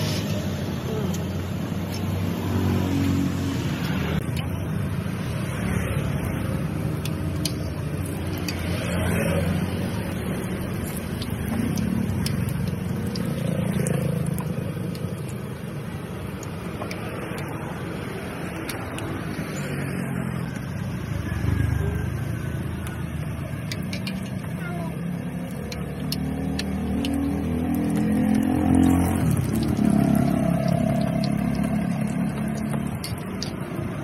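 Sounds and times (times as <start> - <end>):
dough sizzling in hot oil: 0.0 - 34.0
low rumble of street traffic: 0.0 - 34.0.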